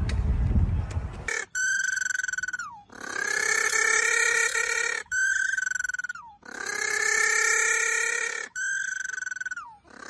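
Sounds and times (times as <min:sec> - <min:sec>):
penguin braying calls: 0:01.3 - 0:10.0.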